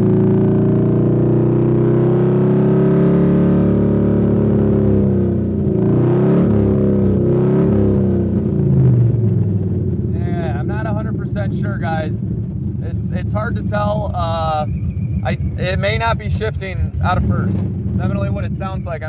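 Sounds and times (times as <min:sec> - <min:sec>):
car engine heard from cabin: 0:00.0 - 0:19.0.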